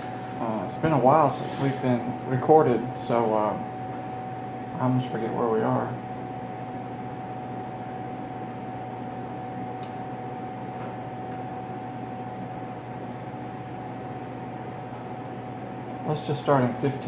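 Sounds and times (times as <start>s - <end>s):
faint constant whine: 0.0s - 17.0s
room hum and hiss: 0.0s - 17.0s.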